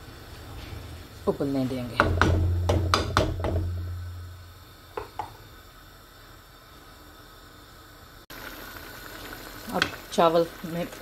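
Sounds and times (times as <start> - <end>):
pot hissing on hob: 0.0 - 11.0.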